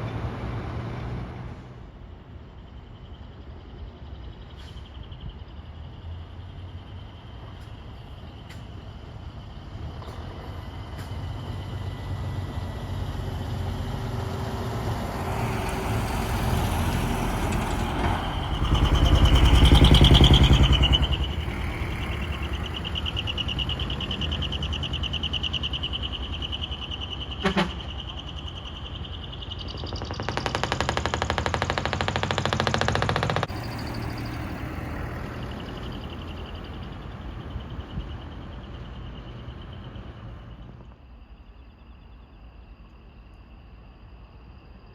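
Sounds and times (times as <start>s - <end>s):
trucks driving past: 0.0s - 41.2s.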